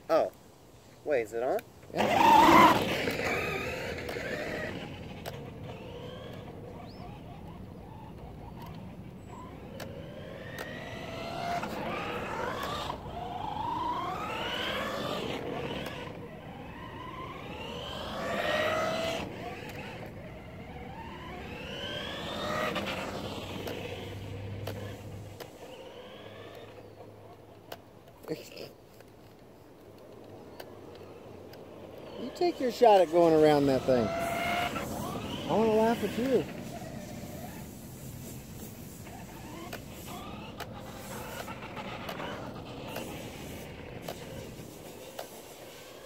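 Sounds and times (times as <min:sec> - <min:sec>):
rc car motors whining: 0:01.3 - 0:46.0.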